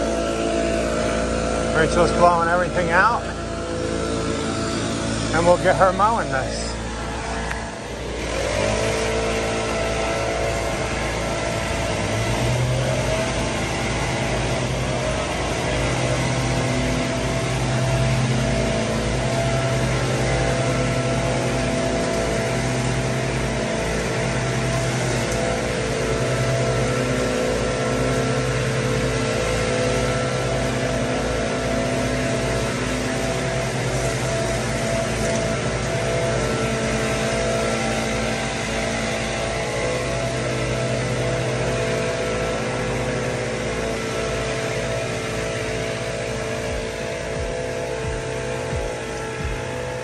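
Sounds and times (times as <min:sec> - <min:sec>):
lawn mower engines running: 0:00.0 - 0:50.0.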